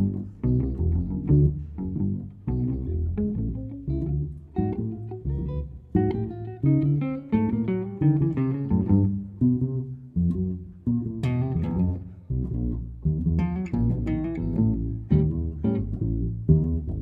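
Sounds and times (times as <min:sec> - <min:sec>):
plucked archtop guitar notes: 0:00.0 - 0:17.0
plucked double bass line: 0:00.0 - 0:17.0.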